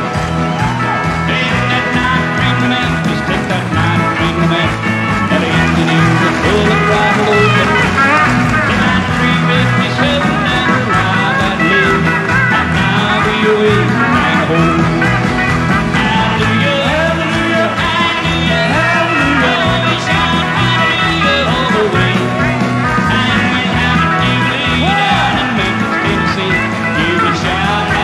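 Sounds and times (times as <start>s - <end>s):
live country band music: 0.0s - 28.0s
man singing: 0.0s - 28.0s.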